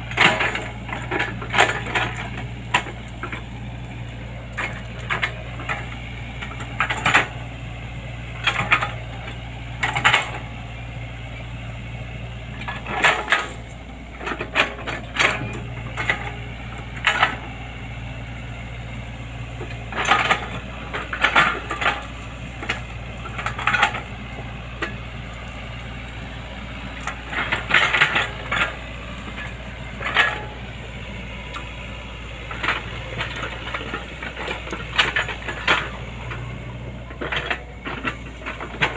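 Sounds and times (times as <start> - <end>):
digging knocks and clatter: 0.0 - 10.6, 12.2 - 38.9
excavator engine running: 0.0 - 38.9.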